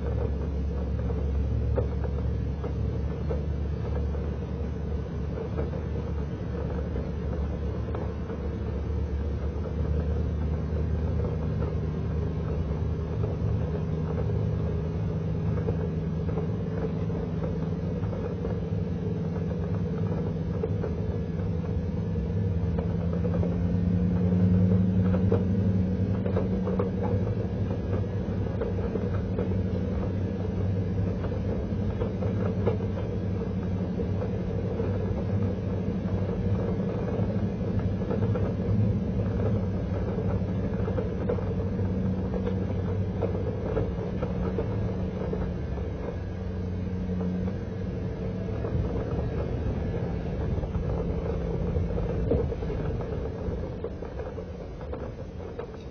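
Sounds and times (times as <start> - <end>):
road rumble: 0.0 - 55.9
truck engine drone: 0.0 - 55.9.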